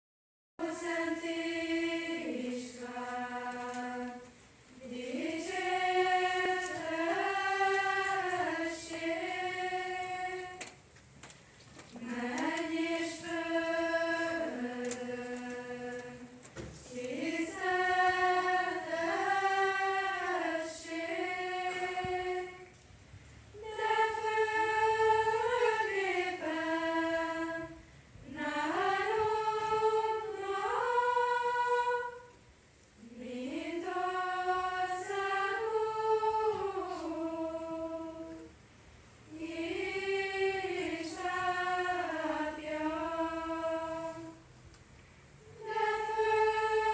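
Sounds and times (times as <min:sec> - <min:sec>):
girls' choir singing a cappella: 0:00.6 - 0:10.9, 0:11.9 - 0:22.8, 0:23.5 - 0:44.6, 0:45.4 - 0:46.9.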